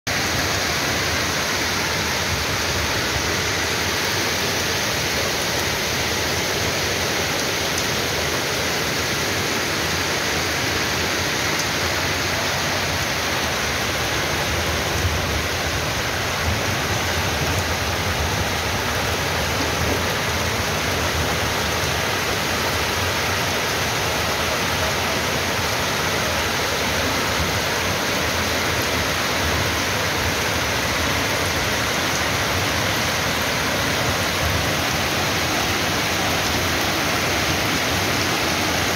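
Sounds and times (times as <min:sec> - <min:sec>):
heavy rain and hail: 0:00.1 - 0:38.9.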